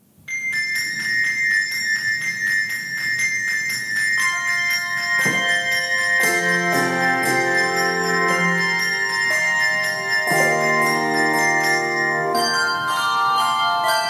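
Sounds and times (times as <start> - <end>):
bell-like high tones: 0.3 - 14.0
sleigh bells shaken: 0.3 - 14.0.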